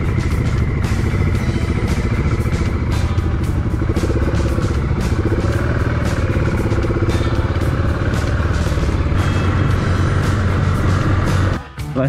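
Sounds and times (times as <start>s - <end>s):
motorcycle engine running: 0.0s - 12.0s
music with steady beat: 0.0s - 12.0s.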